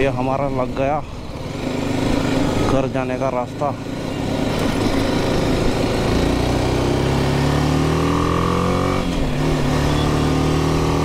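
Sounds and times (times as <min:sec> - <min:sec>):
motorcycle engine pulling hard: 0:00.0 - 0:11.0.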